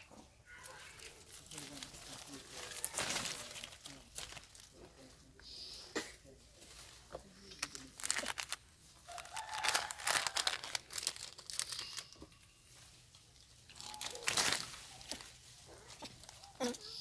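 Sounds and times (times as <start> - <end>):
leaves and twigs rustling: 0.0 - 17.0.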